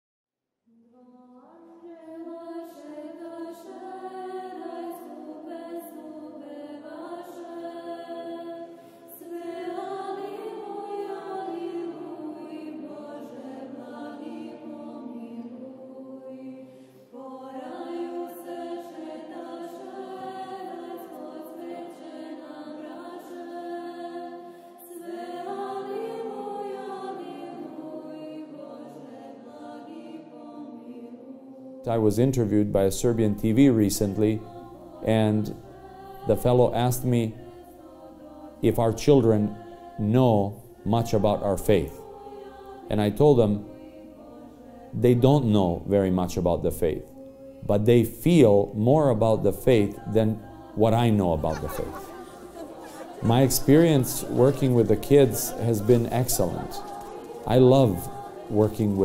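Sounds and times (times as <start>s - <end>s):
choir singing slow chant: 0.7s - 59.0s.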